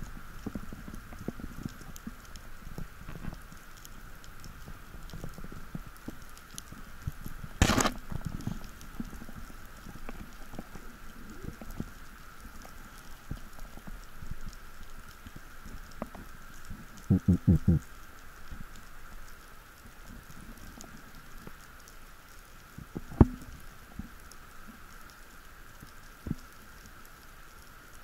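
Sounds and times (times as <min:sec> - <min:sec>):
faint steady hum: 0:00.0 - 0:28.0
underwater crackle of tiny clicks: 0:00.0 - 0:28.0.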